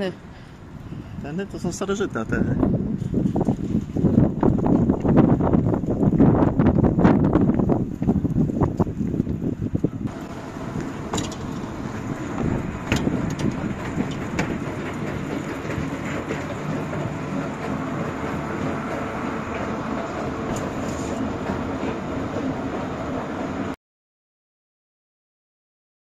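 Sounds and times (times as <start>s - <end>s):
escalator rumble and hum: 0.0s - 23.8s.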